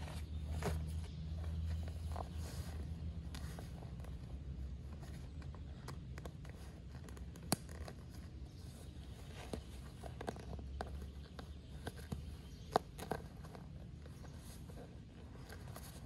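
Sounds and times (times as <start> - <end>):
rustling webbing and fabric: 0.0 - 16.0.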